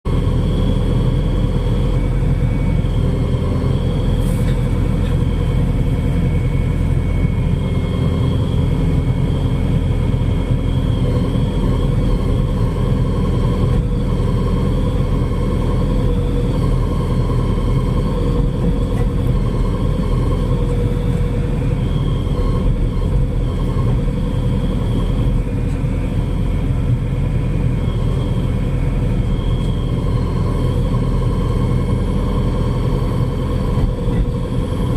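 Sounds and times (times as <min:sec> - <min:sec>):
excavator diesel engine rumbling: 0:00.1 - 0:34.9.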